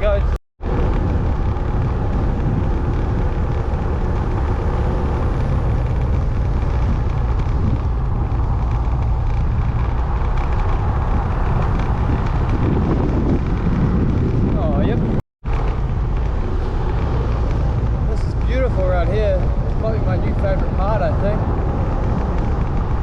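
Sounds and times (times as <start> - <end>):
motorbike engine: 0.0 - 23.0
road and wind noise: 0.0 - 23.0.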